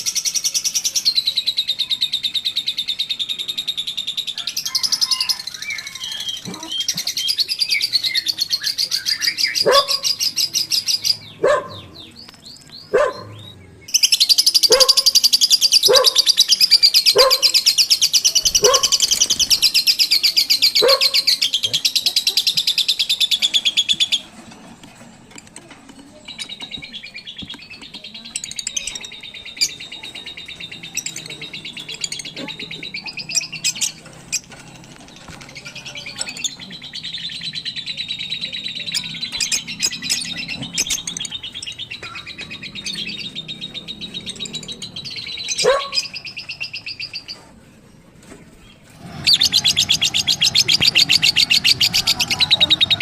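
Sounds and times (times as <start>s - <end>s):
lovebirds chattering: 0.0s - 53.0s.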